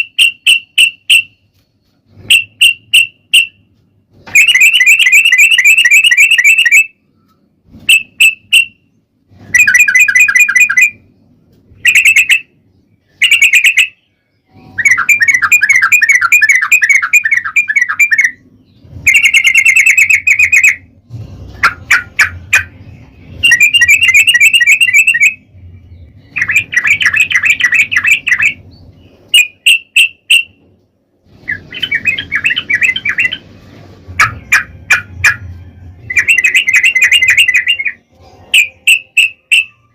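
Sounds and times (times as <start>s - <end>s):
faint low hum: 0.7s - 29.6s, 30.4s - 39.9s
bird singing trilled song: 4.2s - 30.6s, 31.3s - 33.5s, 34.2s - 39.9s.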